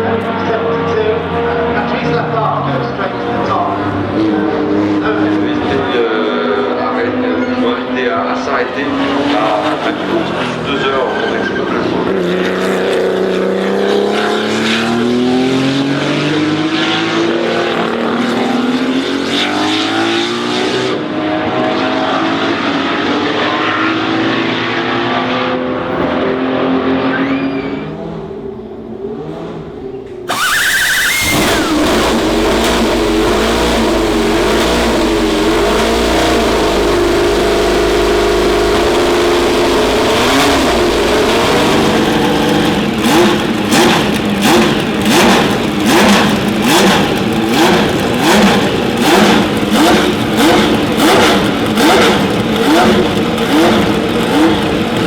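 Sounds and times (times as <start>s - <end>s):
race car engine running steady: 0.0s - 26.3s, 30.3s - 55.0s
race car engine accelerating: 0.0s - 28.4s, 29.2s - 55.0s.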